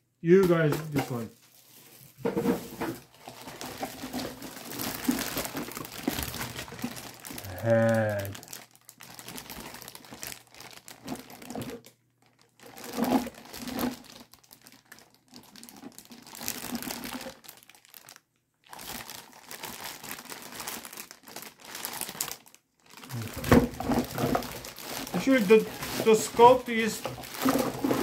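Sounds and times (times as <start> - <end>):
plastic bag crinkling: 0.5 - 28.0.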